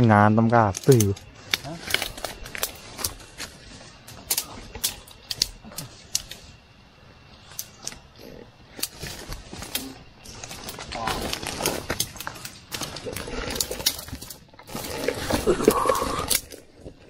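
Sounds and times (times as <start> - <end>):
twigs and dry leaves crackling: 0.0 - 17.0.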